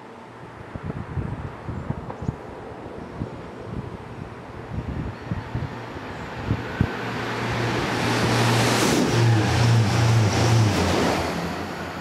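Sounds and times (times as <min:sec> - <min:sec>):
train passing at speed: 0:00.0 - 0:12.0
wind buffeting microphone: 0:00.5 - 0:11.2.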